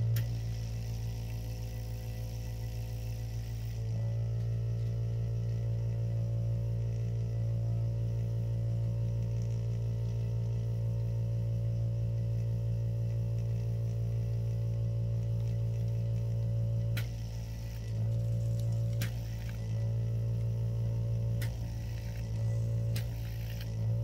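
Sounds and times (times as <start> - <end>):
electric hum: 0.0 - 24.0.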